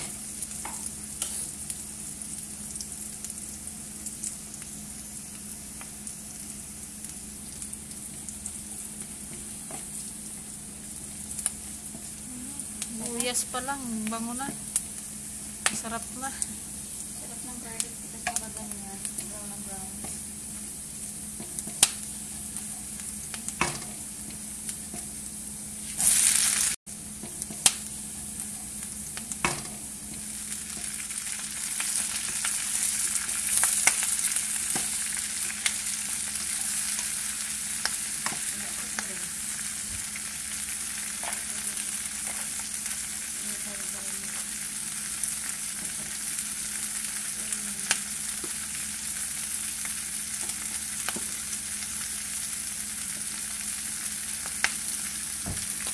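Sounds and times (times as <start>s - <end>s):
food sizzling in a frying pan: 0.0s - 55.9s.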